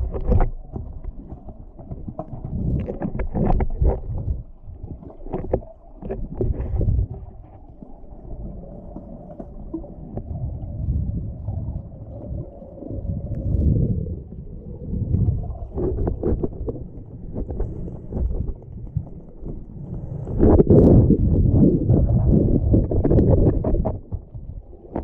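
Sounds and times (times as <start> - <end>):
small clicks and crackles: 0.0 - 13.7, 15.0 - 21.0, 21.9 - 25.0
bubbles: 0.0 - 25.0
underwater rumbling water movement: 0.0 - 25.0.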